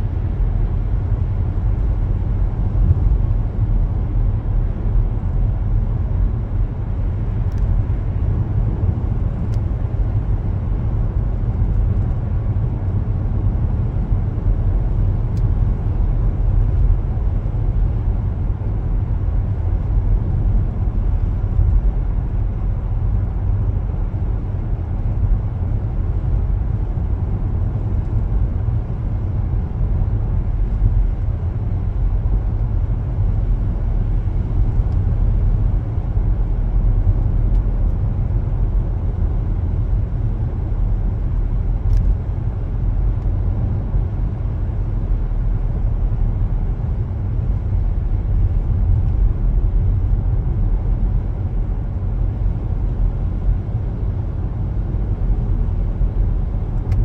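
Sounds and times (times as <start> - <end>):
car driving road rumble: 0.0 - 57.0.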